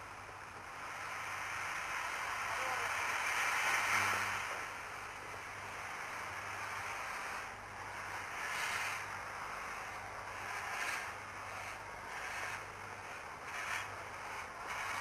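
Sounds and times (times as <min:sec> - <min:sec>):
steam locomotive hissing: 0:00.8 - 0:15.0.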